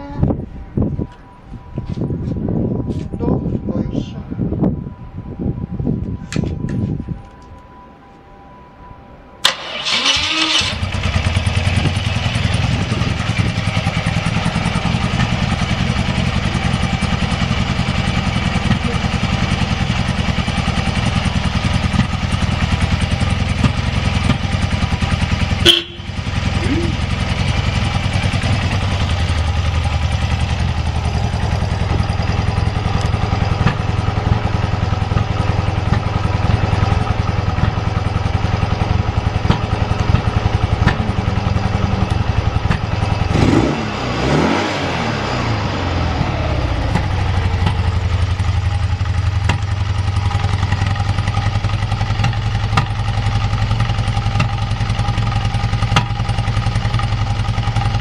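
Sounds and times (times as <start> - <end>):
motorcycle engine idling: 9.7 - 58.0.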